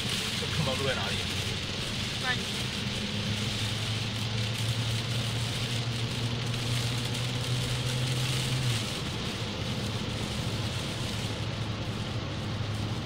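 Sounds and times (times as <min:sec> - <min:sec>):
low car engine drone: 0:00.0 - 0:13.0
rain and tyre spray hiss: 0:00.0 - 0:13.0.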